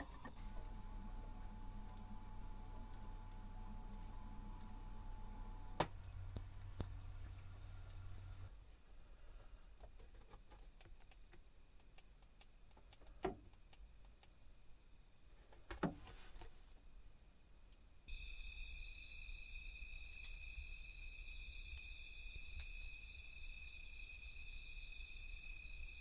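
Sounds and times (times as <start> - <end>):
insects chirring: 0.0 - 15.8, 16.9 - 26.0.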